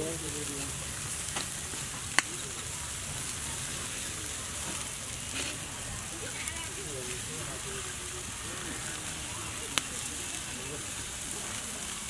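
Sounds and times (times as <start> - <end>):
meat sizzling over fire: 0.0 - 12.0.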